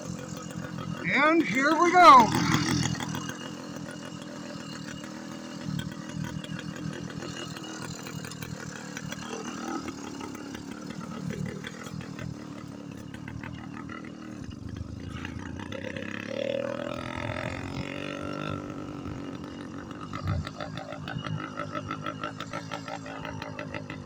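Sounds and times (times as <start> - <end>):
small motorbike engine running: 0.0 - 24.0.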